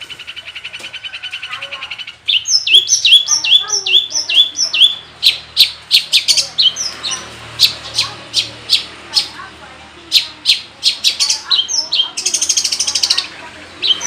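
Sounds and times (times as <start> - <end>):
bird singing varied song: 0.0 - 14.0.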